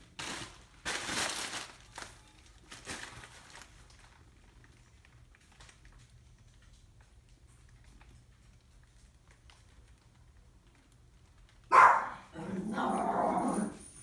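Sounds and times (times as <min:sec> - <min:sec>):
rustling crinkling handling noise: 0:00.0 - 0:11.8
faint low room hum: 0:00.0 - 0:14.0.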